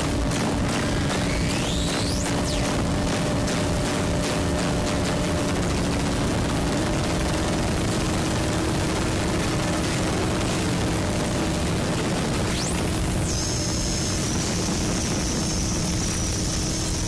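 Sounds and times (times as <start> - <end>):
droning tones: 0.0 - 17.0
harsh static noise: 0.0 - 17.0
sharp rising whine: 0.0 - 17.0.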